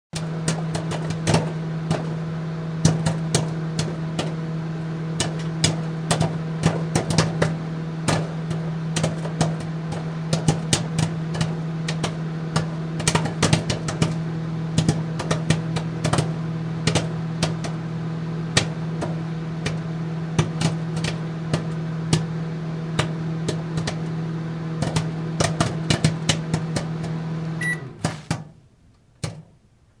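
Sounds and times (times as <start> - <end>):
popcorn popping: 0.2 - 29.8
microwave oven hum: 0.2 - 30.0.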